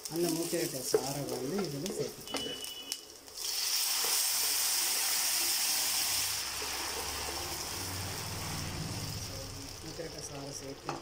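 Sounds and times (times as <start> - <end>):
juice hissing in hot oil: 0.0 - 11.0.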